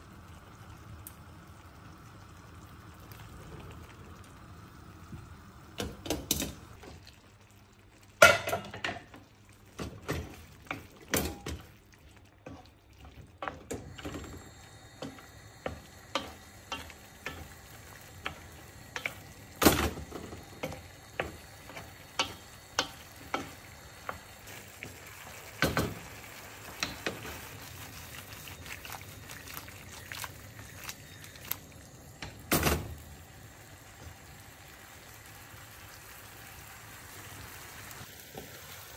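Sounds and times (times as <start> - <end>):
faint frying sizzle: 0.0 - 38.9.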